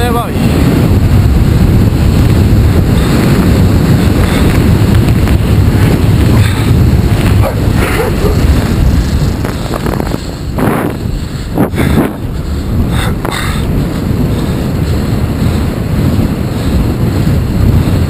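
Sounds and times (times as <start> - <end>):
bike tyre noise on asphalt: 0.0 - 18.0
wind buffeting microphone: 0.0 - 18.0.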